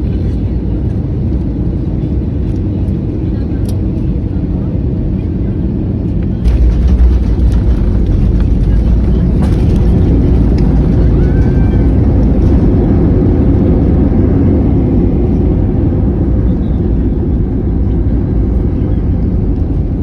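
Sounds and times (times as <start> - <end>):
airliner cabin engine rumble: 0.0 - 20.0.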